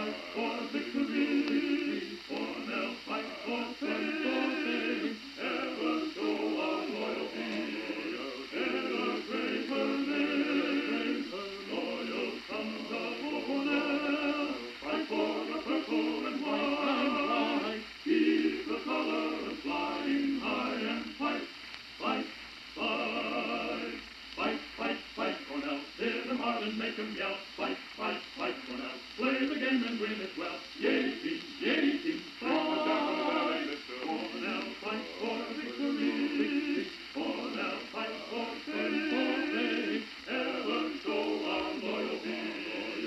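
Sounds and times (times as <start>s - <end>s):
group of voices singing: 0.0s - 43.0s.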